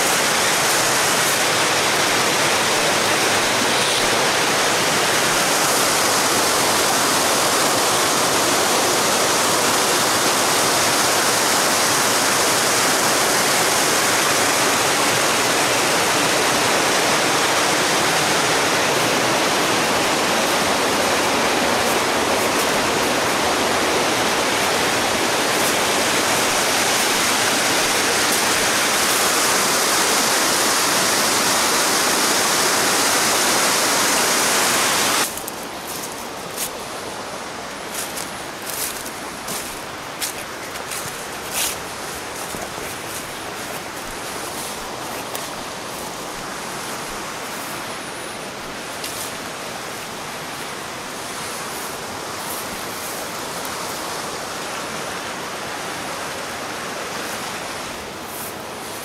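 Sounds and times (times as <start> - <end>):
water rushing over a weir: 0.0 - 59.0.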